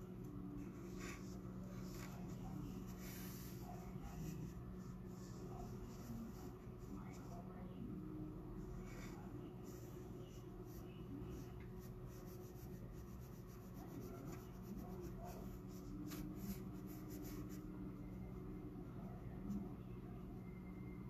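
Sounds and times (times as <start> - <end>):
faint background murmur: 0.0 - 20.4.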